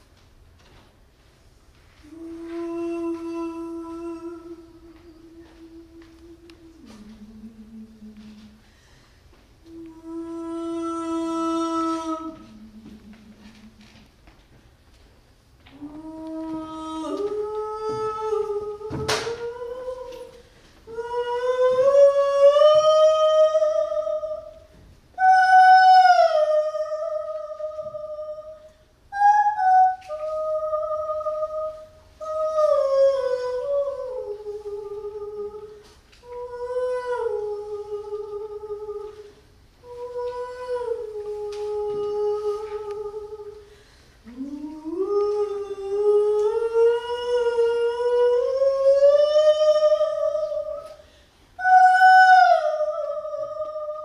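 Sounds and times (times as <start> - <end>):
woman singing unaccompanied: 2.0 - 8.6, 9.6 - 14.2, 15.6 - 51.0, 51.6 - 54.0.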